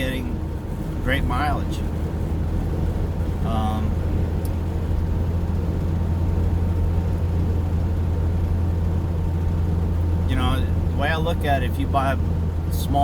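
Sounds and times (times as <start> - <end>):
vehicle interior drone: 0.0 - 13.0.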